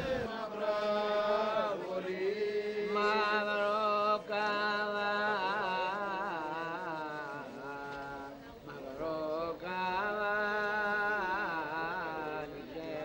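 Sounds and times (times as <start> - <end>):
slow vocal chant: 0.0 - 13.0.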